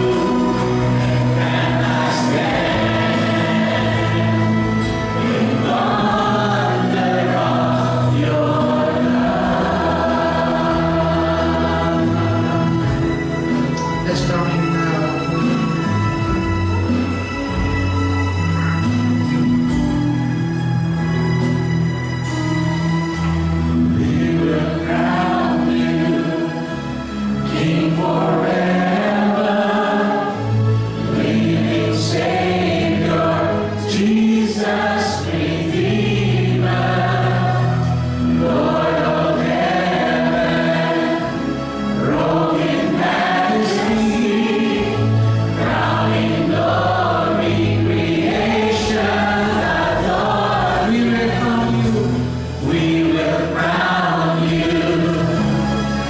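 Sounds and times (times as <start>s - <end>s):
group of singers: 0.0s - 16.0s, 23.1s - 56.0s
bass guitar: 0.0s - 29.8s, 30.4s - 56.0s
keyboard: 0.0s - 56.0s.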